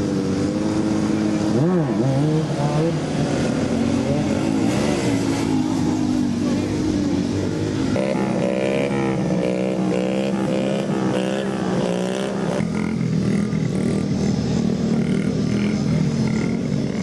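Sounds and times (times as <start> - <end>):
mini bike engines running: 0.0 - 17.0.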